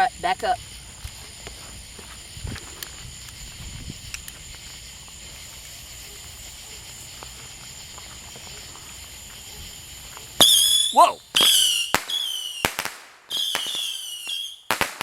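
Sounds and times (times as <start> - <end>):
night insects droning: 0.0 - 15.0.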